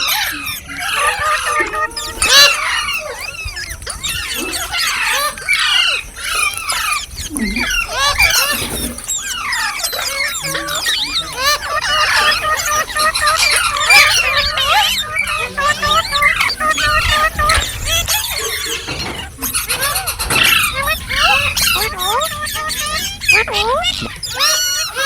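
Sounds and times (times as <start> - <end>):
parakeet chattering squeaks: 0.0 - 25.0.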